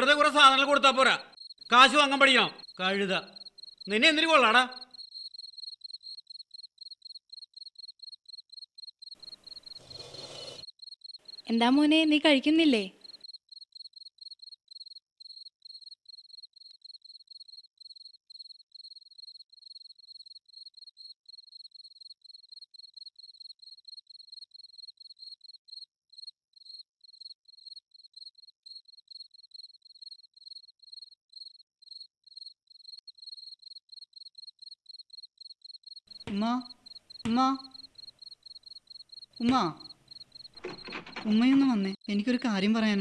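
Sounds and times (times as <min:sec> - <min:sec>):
crickets chirping: 0:00.0 - 0:43.0.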